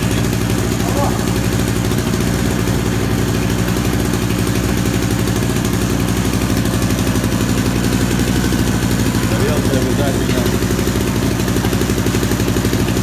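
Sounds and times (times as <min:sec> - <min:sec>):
portable generator running: 0:00.0 - 0:13.0.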